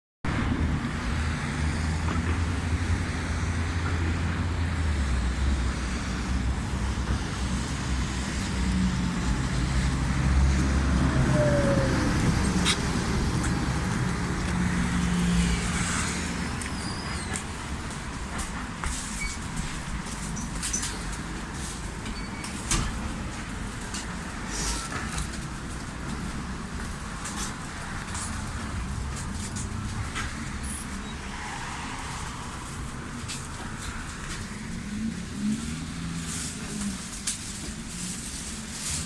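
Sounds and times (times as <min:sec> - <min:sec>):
tram rumbling: 0:00.2 - 0:39.0.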